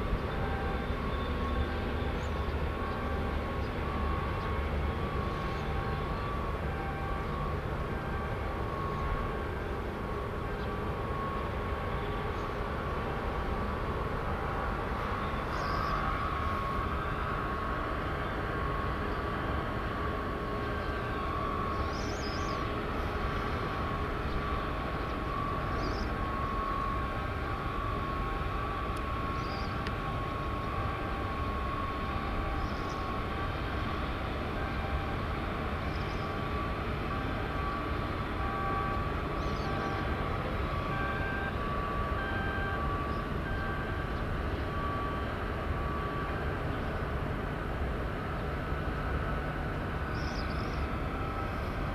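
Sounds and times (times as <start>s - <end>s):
machinery low rumble: 0.0s - 51.9s
mid-pitched machine hum: 0.0s - 51.9s.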